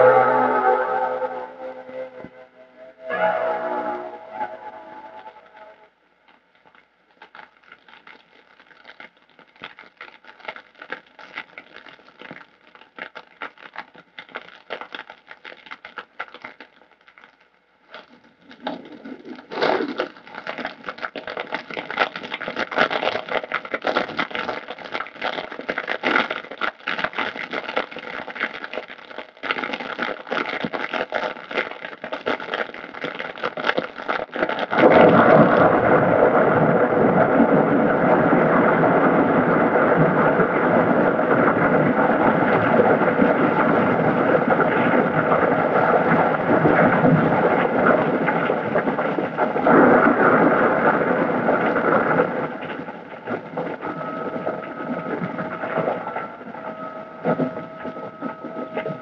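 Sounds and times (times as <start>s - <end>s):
dry grass crackling as it burns: 6.3s - 59.0s.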